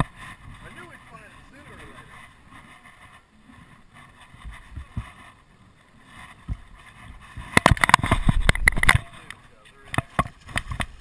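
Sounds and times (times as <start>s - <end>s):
light water noise: 0.0s - 11.0s
wind: 0.0s - 11.0s.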